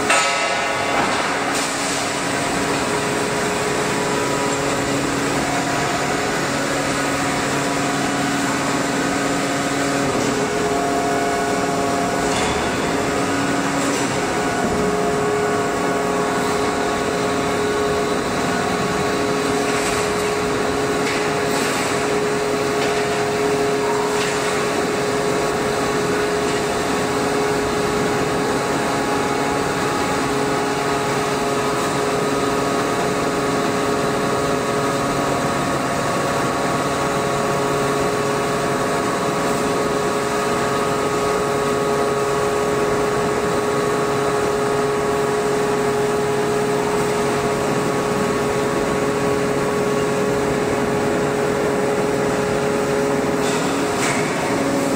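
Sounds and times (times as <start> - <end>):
hydraulic press droning whine: 0.0 - 54.9.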